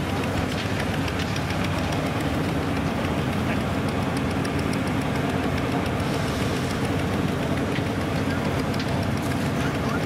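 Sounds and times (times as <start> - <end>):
threshing machine humming: 0.0 - 10.0.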